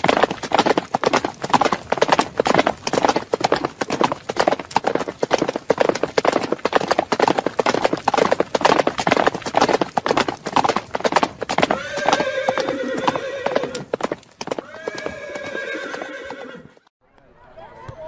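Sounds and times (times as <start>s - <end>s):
horse hooves clip-clopping: 0.0s - 16.8s.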